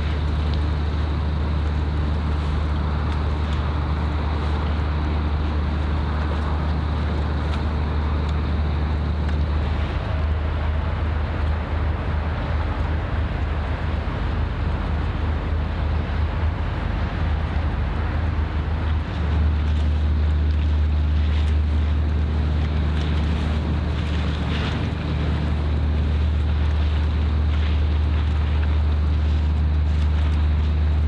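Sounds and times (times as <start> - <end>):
ship engine drone: 0.0 - 31.0
wind: 0.0 - 31.0.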